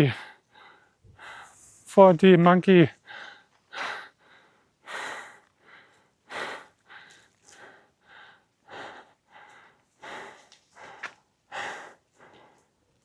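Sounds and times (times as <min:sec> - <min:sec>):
man breathing hard: 0:00.0 - 0:01.8, 0:03.0 - 0:12.8.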